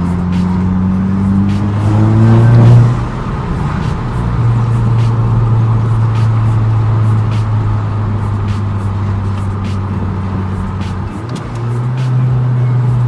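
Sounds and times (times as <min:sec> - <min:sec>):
car engine revving and droning: 0:00.0 - 0:13.0.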